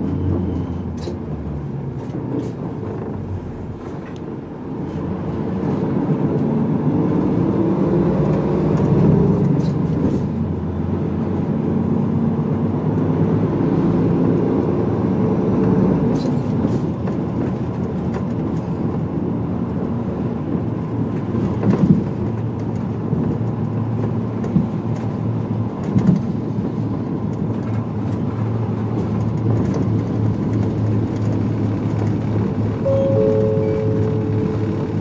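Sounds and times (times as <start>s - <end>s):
bus engine hum: 0.0s - 35.0s
road rumble: 0.0s - 35.0s.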